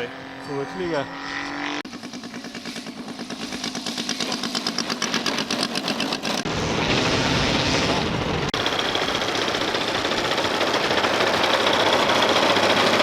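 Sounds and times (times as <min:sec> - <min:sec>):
model aircraft engine running: 0:01.8 - 0:13.0.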